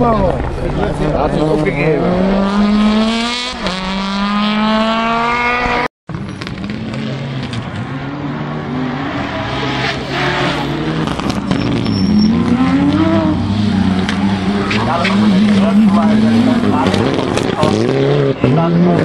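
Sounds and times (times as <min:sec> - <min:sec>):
rally car engine at full throttle: 0:00.0 - 0:19.0
turbocharged engine revving: 0:01.9 - 0:07.6, 0:08.3 - 0:19.0.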